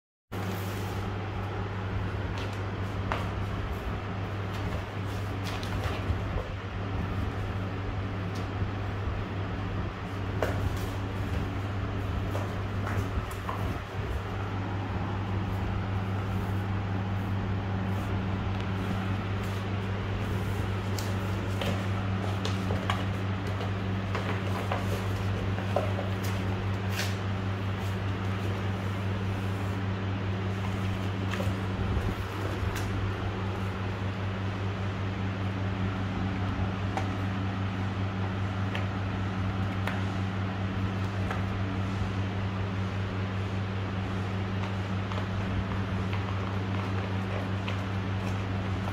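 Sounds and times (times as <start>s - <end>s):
low mechanical hum: 0.3s - 48.9s
kittens scuffling with cardboard box: 0.4s - 9.1s, 9.8s - 48.9s.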